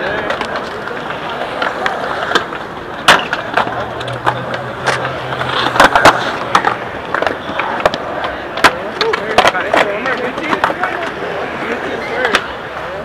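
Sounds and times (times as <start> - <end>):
skateboard clacking on concrete: 0.0 - 13.0
skateboard wheels rolling: 0.0 - 13.0.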